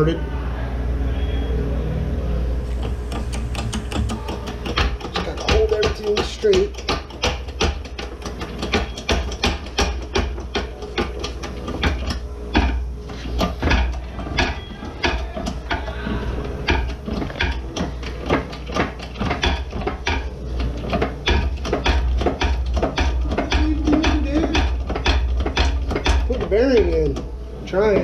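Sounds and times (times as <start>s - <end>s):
steady low hum: 0.0s - 28.0s
shop press clicking and knocking: 2.6s - 28.0s.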